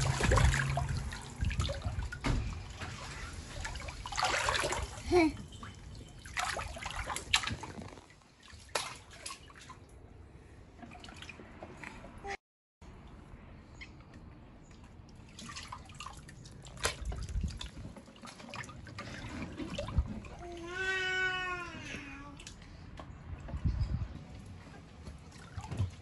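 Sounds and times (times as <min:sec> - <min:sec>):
water dripping and splashing: 0:00.0 - 0:10.2, 0:10.8 - 0:12.2, 0:12.9 - 0:26.0.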